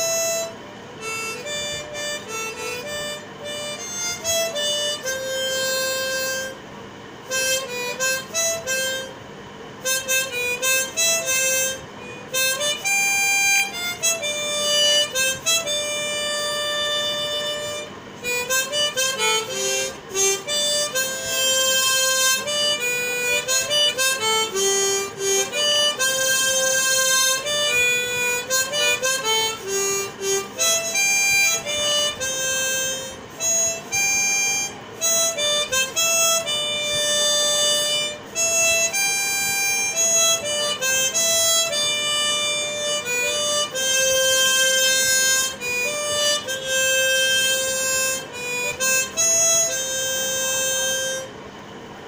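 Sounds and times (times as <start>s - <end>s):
harmonica melody: 0.0s - 52.0s.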